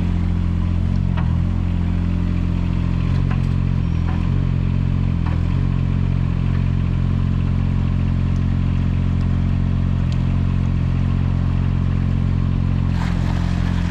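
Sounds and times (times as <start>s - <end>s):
excavator engine running: 0.0s - 13.9s.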